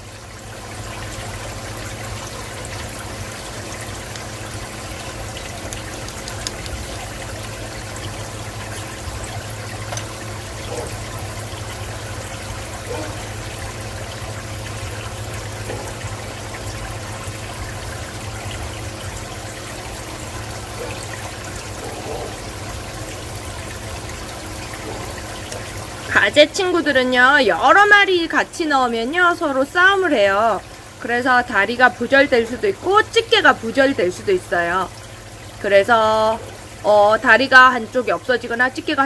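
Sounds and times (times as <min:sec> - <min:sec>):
aquarium pump hum: 0:00.0 - 0:39.0
water trickling in aquarium: 0:00.0 - 0:39.0.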